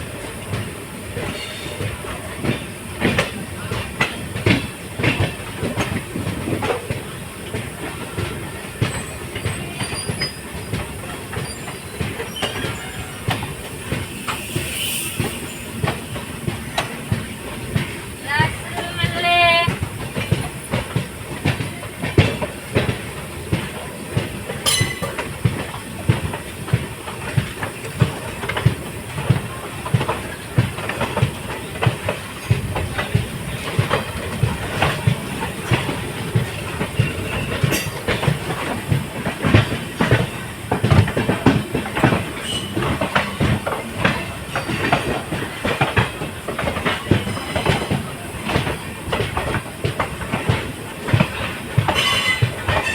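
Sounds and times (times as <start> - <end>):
train rumble: 0.0 - 52.9
train wheels clacking on rails: 0.0 - 52.9.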